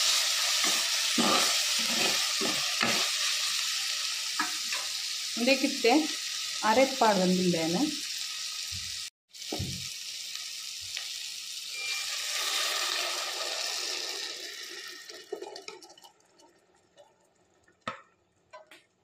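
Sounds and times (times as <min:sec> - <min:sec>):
vegetables sizzling in oil: 0:00.0 - 0:15.4.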